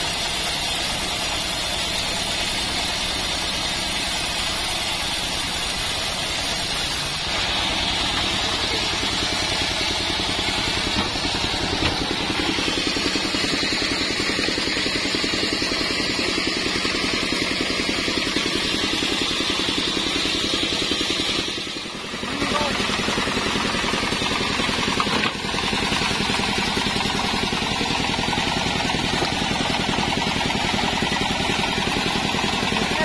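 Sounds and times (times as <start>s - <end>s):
band saw cutting log: 0.0s - 33.0s
sawmill engine running: 0.0s - 33.0s.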